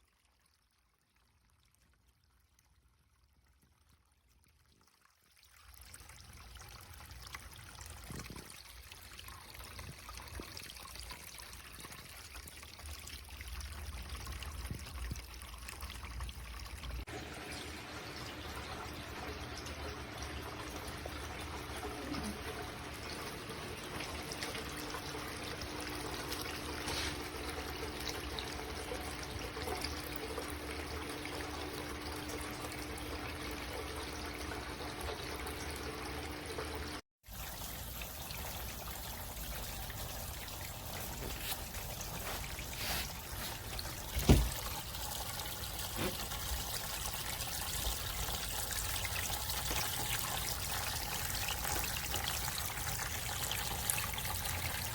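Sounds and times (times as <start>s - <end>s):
fountain water pouring: 0.0s - 54.9s.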